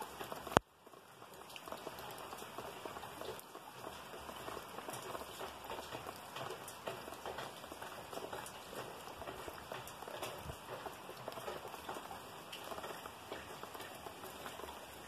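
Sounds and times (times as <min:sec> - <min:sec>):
light rain on plants and soil: 0:00.0 - 0:15.0.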